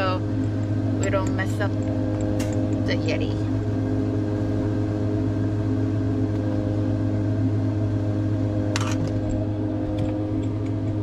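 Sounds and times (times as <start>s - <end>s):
machine hum with held tones: 0.0s - 11.0s.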